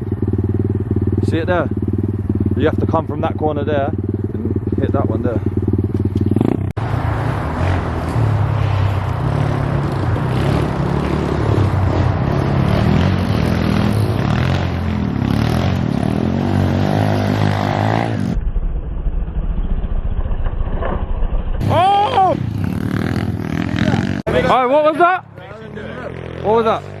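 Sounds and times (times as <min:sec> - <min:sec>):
pit bike engine revving: 0:00.0 - 0:18.4, 0:21.6 - 0:27.0.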